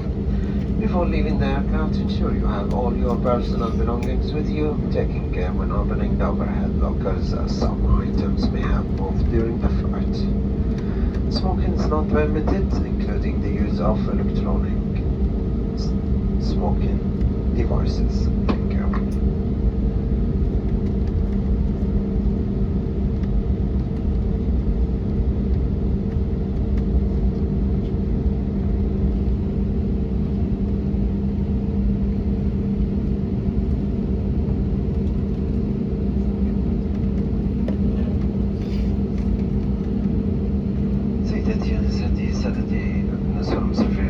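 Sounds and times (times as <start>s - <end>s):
airplane cabin drone: 0.0s - 44.0s
steady low hum: 0.0s - 44.0s.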